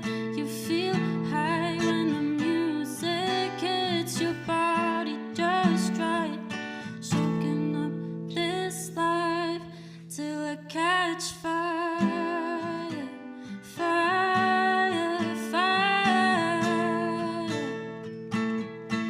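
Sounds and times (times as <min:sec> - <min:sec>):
person singing: 0:00.0 - 0:09.7, 0:10.5 - 0:17.8
acoustic guitar: 0:00.0 - 0:19.0.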